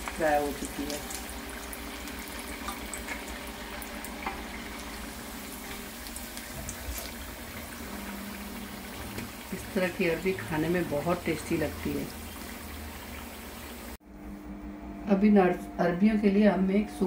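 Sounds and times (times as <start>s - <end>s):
oil sizzling in a wok: 0.0s - 14.0s.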